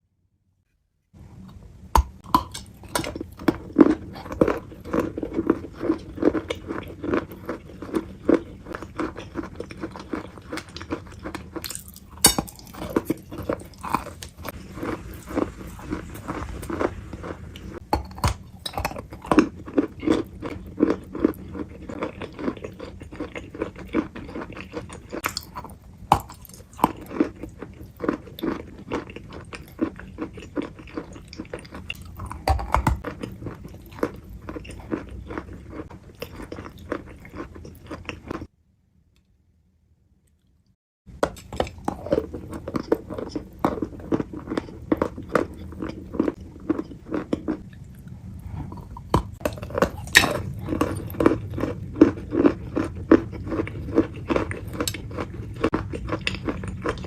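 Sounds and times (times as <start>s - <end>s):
chewing and crunching food: 1.2s - 38.5s, 40.2s - 57.0s.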